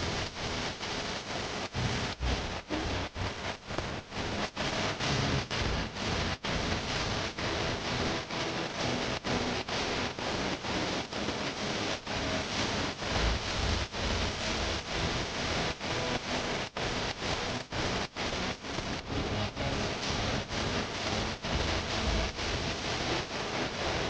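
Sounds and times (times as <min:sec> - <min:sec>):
steady hissing noise: 0:00.0 - 0:24.0.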